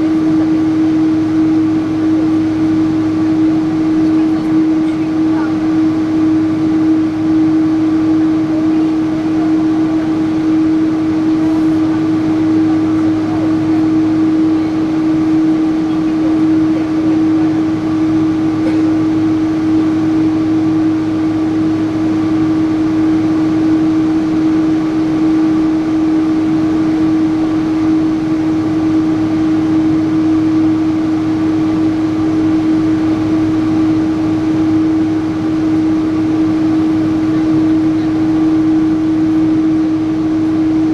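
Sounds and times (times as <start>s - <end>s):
airliner cabin hum: 0.0s - 40.9s.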